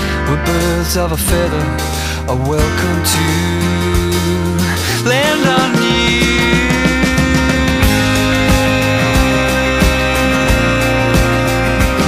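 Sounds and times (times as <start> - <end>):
instrumental pop-rock song: 0.0 - 12.0.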